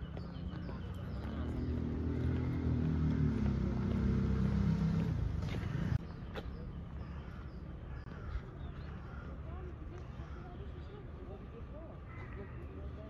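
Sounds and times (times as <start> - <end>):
vehicle engine humming: 0.0 - 11.1.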